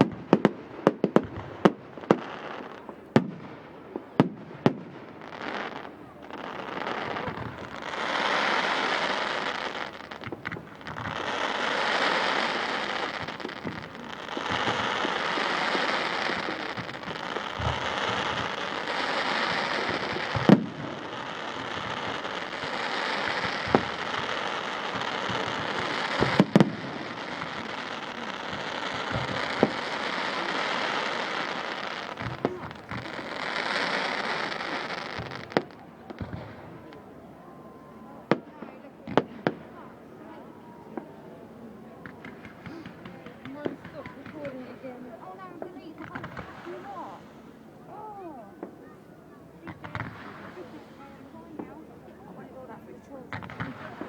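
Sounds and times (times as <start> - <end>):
firework bangs: 0.0 - 37.1, 41.9 - 54.0
fireworks crackling: 0.0 - 54.0.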